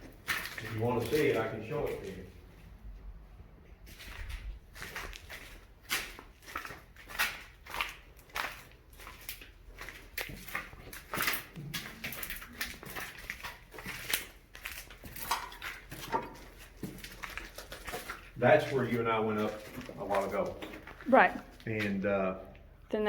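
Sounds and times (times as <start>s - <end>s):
footsteps walking: 0.0s - 22.0s.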